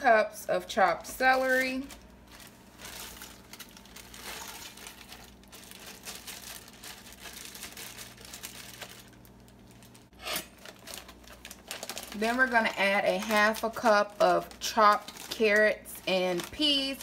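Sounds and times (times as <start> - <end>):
plastic bag crinkling: 0.8 - 17.0.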